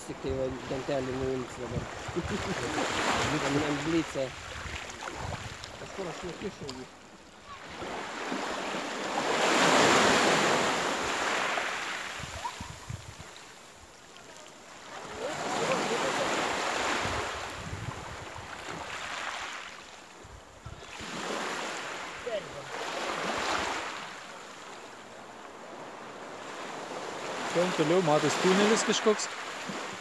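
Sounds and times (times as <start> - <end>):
waves breaking on shingle beach: 0.1 - 30.0.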